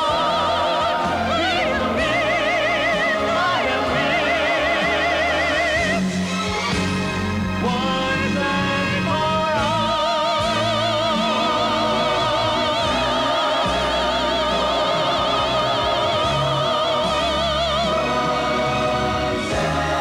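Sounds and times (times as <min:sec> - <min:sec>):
sustained choral backing: 0:00.0 - 0:20.0.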